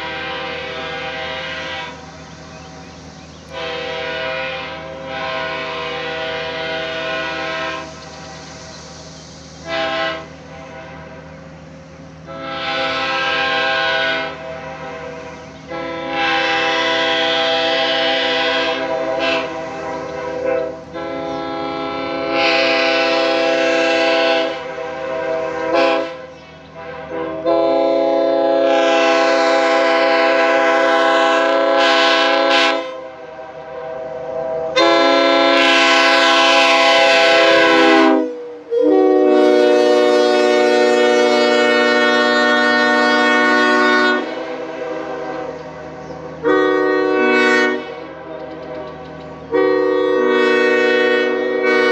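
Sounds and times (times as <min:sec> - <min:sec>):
train air horn chord blasts: 0:00.0 - 0:08.9, 0:09.6 - 0:51.9.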